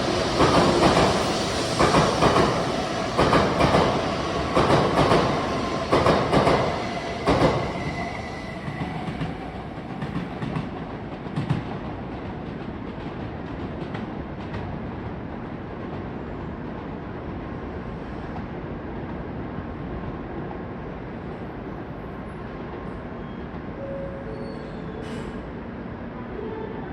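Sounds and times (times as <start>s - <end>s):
train running on rails: 0.0s - 26.9s.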